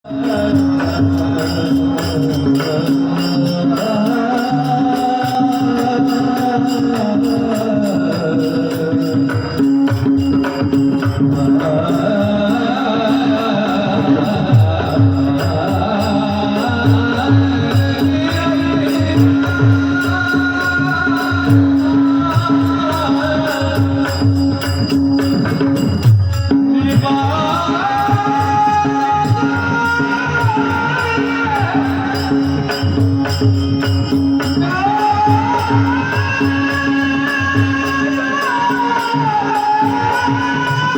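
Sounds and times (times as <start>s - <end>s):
man singing long held notes: 0.0s - 25.6s, 26.4s - 40.9s
jingling percussion: 0.0s - 40.9s.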